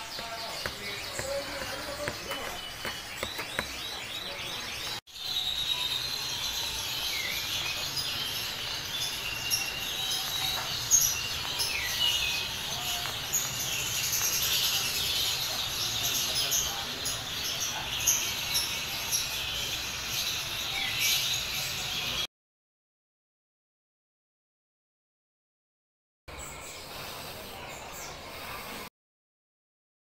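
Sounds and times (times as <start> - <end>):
birds chirping: 0.0 - 22.3, 26.3 - 28.9.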